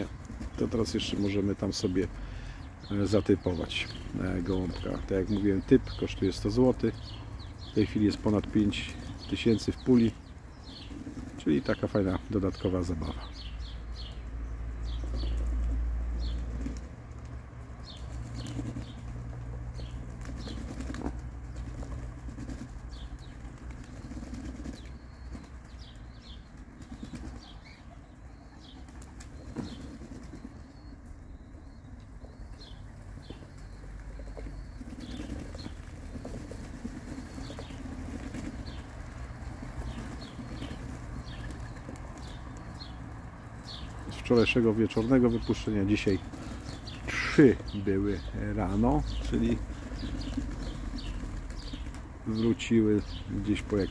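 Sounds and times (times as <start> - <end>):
pigeons flapping wings: 0.0 - 14.1, 14.7 - 30.8, 32.6 - 53.9
pigeons cooing: 0.0 - 14.2, 14.8 - 53.9.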